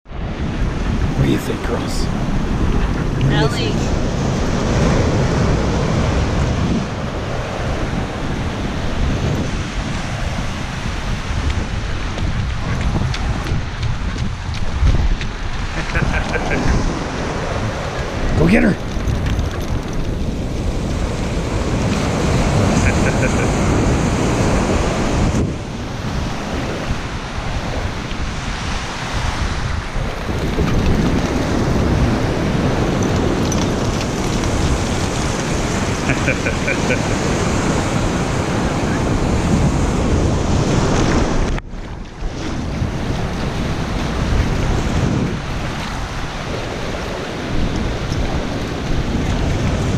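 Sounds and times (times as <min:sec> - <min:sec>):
ocean surf: 0:00.1 - 0:49.9
wind buffeting microphone: 0:00.1 - 0:49.9.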